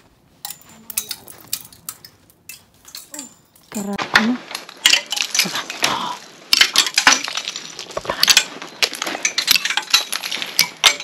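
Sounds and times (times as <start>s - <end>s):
icicles clinking and cracking: 0.4s - 11.0s.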